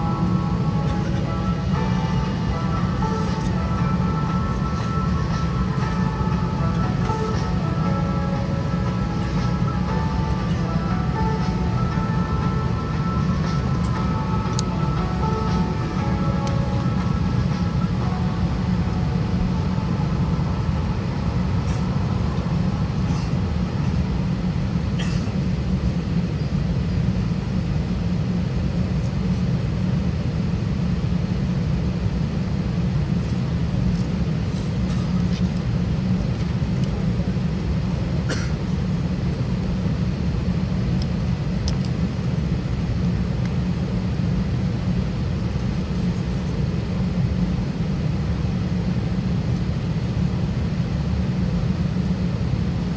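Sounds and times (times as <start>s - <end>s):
aircraft cabin low rumble: 0.0s - 52.9s.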